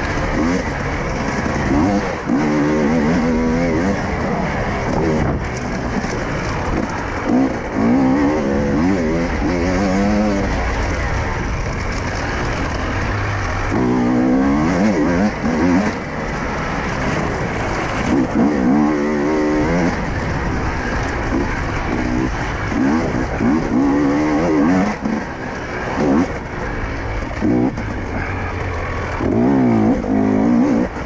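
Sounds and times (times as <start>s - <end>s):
motorcycle engine revving: 0.0s - 31.0s
steady rushing noise: 0.0s - 31.0s.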